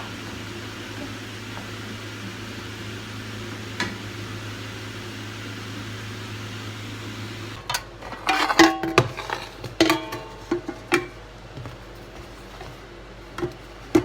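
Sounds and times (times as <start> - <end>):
appliance hum with hiss: 0.0 - 14.0.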